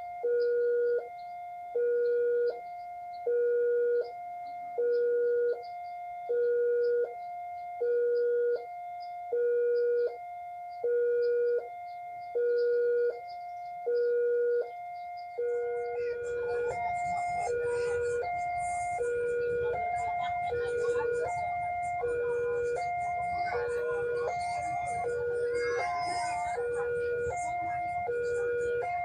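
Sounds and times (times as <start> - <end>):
level-crossing two-tone alarm: 0.0 - 29.0.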